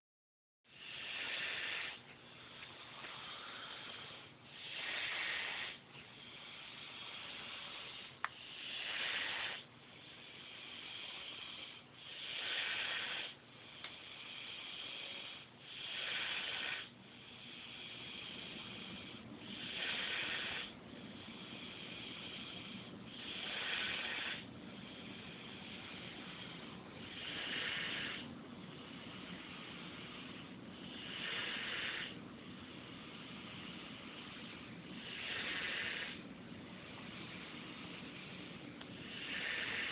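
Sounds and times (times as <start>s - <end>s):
snoring: 0.7s - 39.9s.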